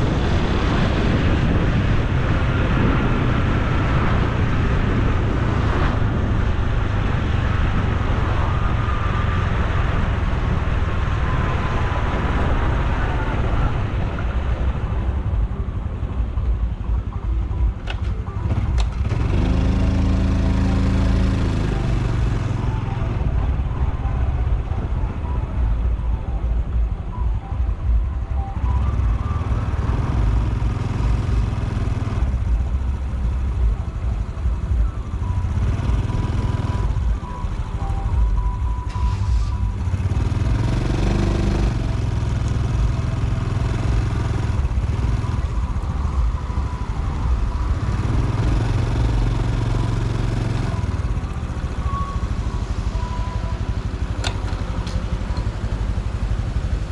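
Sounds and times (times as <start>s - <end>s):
motorcycle engine and exhaust: 0.0s - 56.9s.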